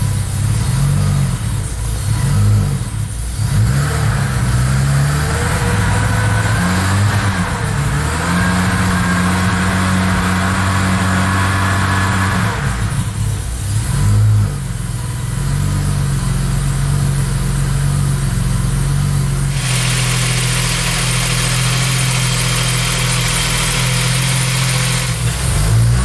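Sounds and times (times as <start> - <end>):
car engine idling: 0.0 - 26.0
engine bay hiss and whir: 0.0 - 26.0.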